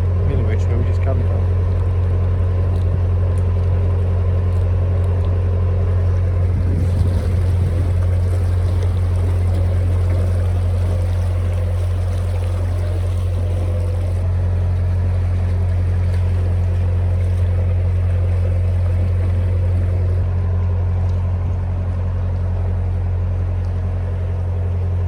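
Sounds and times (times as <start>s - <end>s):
boat engine droning: 0.0s - 25.0s
water around boat hull: 0.0s - 25.0s.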